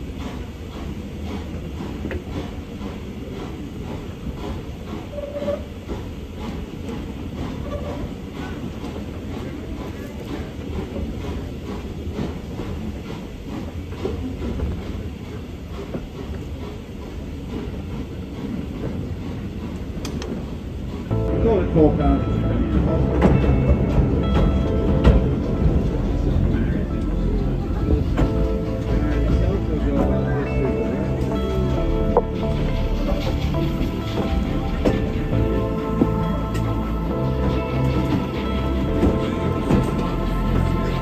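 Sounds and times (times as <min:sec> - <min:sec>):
wheels clickety-clack: 0:00.0 - 0:21.2, 0:22.1 - 0:41.0
train wheels rumbling on track: 0:00.0 - 0:41.0.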